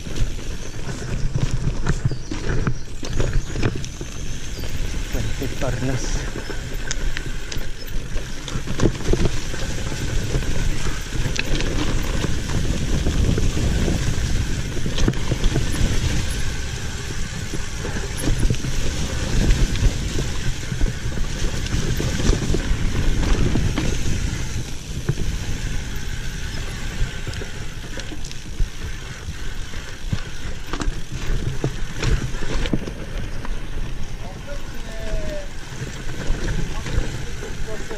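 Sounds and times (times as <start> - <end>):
bike rattling over rocks: 0.0 - 37.9
bike tyres rolling over dirt: 0.0 - 37.9
wind on microphone: 0.0 - 37.9.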